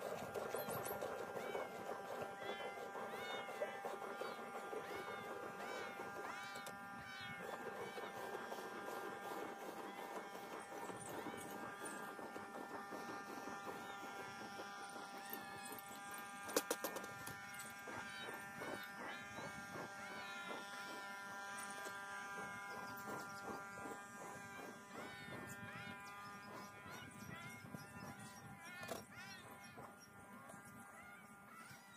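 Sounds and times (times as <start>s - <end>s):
multi-tone buzz: 0.1s - 31.9s.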